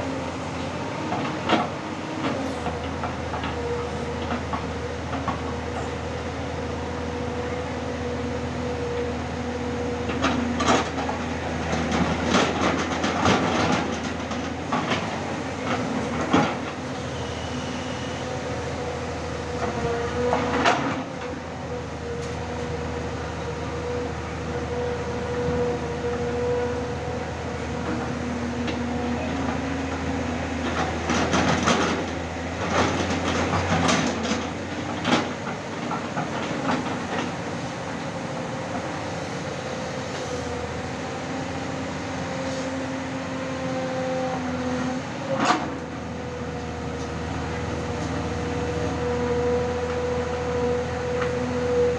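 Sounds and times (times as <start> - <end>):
excavator running under load: 0.0 - 51.9.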